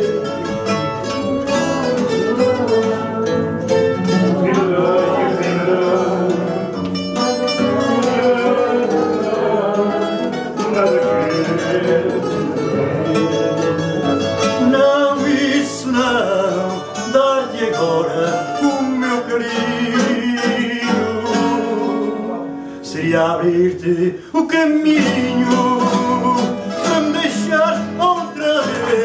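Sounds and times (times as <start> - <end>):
plucked guitar melody: 0.0 - 29.0
strummed guitar accompaniment: 0.0 - 29.0.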